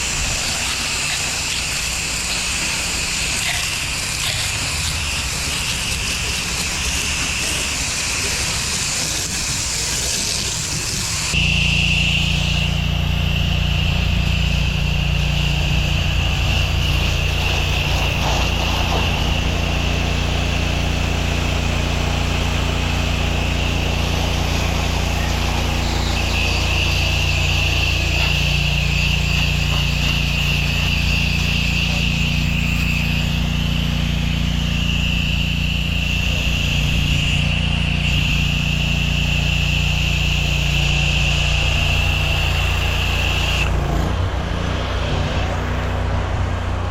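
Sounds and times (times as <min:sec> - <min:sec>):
high narrow whine: 0:00.0 - 0:46.9
pressure washer engine hum: 0:00.0 - 0:46.9.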